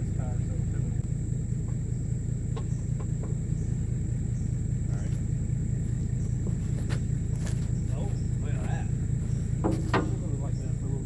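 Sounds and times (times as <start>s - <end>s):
large engine idling: 0.0s - 11.0s.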